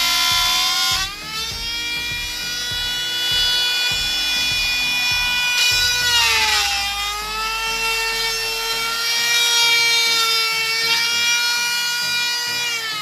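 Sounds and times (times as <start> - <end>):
power tool whining: 0.0 - 13.0.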